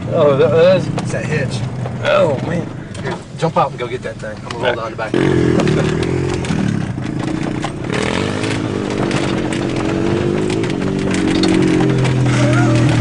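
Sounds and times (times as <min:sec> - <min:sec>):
truck engine running: 0:00.0 - 0:13.0
light rattles and clicks: 0:00.8 - 0:13.0.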